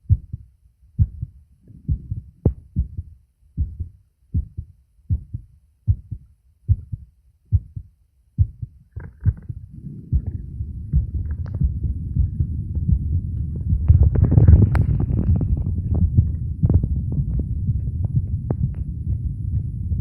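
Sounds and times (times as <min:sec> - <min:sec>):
heartbeat thumps: 0:00.0 - 0:20.0
low rumble: 0:01.0 - 0:20.0.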